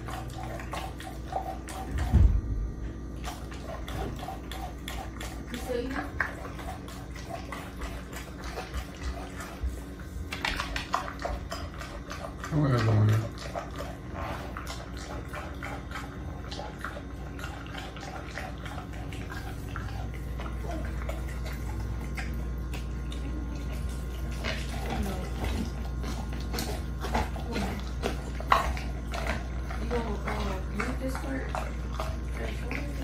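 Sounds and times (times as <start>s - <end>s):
dog mouth noises: 0.0s - 33.0s
steady low hum: 0.0s - 33.0s.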